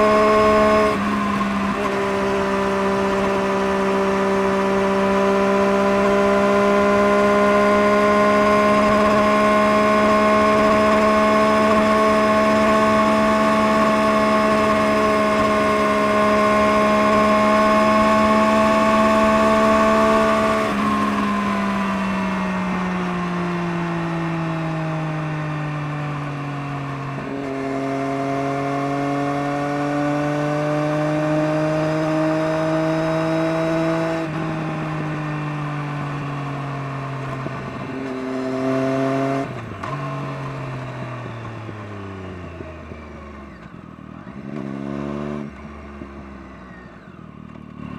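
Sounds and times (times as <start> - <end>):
engine running through exhaust: 0.0 - 47.9.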